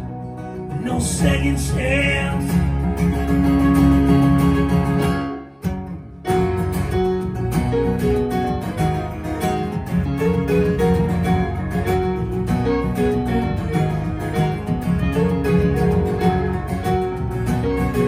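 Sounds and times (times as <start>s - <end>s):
keyboard: 0.0s - 18.0s
strummed acoustic guitar: 0.0s - 18.0s.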